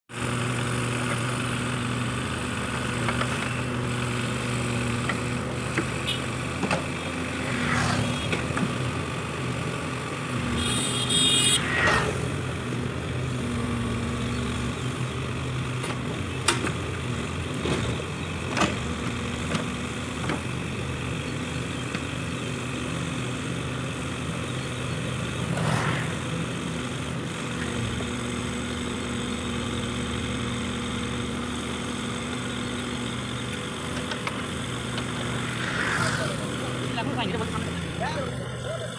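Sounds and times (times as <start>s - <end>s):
backhoe diesel engine running: 0.1s - 38.9s.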